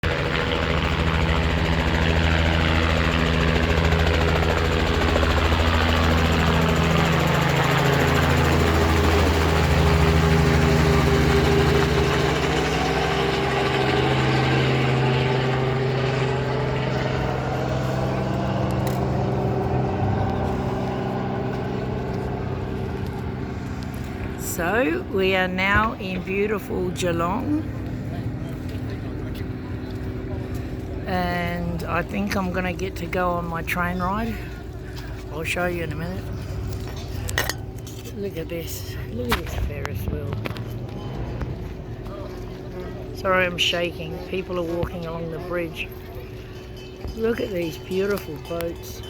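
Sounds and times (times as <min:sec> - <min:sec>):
vehicle engine droning: 0:00.0 - 0:33.8, 0:34.4 - 0:49.0.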